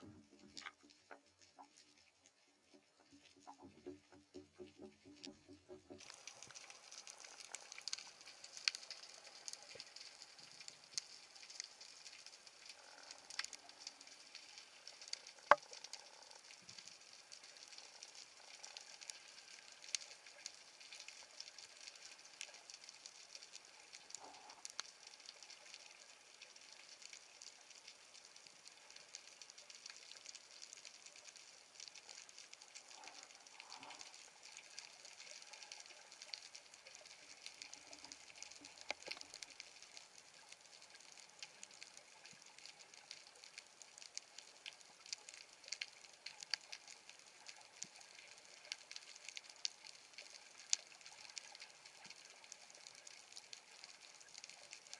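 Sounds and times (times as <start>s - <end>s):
small sharp underwater clicks: 0.0s - 54.9s
underwater crackling hiss: 0.0s - 54.9s.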